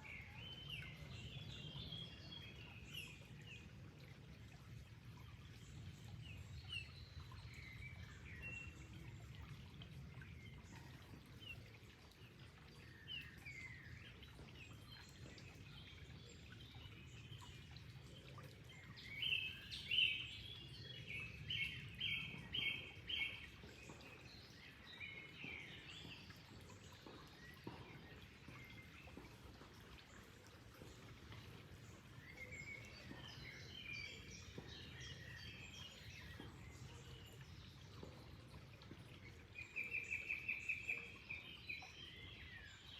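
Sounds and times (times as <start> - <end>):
water flowing: 0.0 - 42.9.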